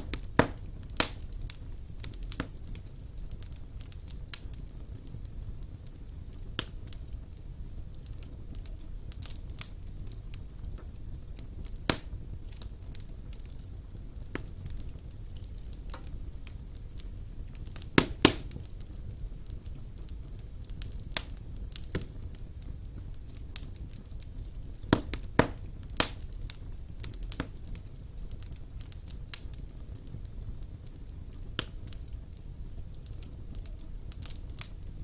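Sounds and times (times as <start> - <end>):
loud fire pops: 0.0 - 35.0
wood fire crackling: 0.0 - 35.0.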